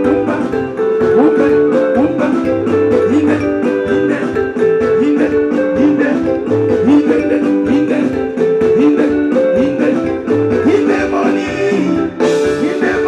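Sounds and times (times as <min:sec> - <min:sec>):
bass: 0:00.0 - 0:13.0.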